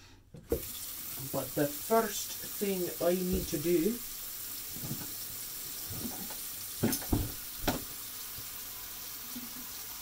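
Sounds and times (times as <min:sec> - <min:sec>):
steady hiss: 0:00.5 - 0:10.0.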